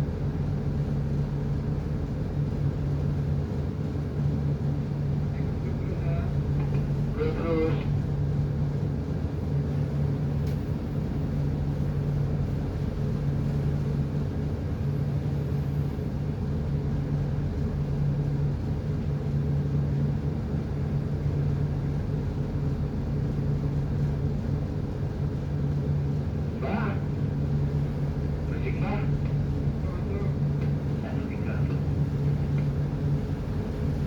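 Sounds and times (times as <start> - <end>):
ship diesel engine drone: 0.0 - 34.0.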